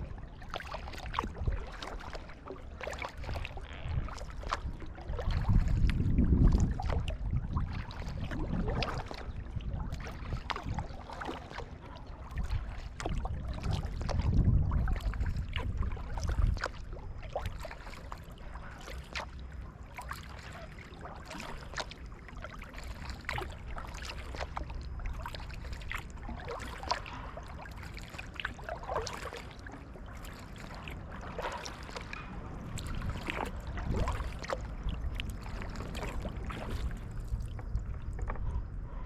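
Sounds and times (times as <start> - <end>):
paddle splashing water: 0.0 - 39.0
water gurgling around kayak: 0.0 - 39.0.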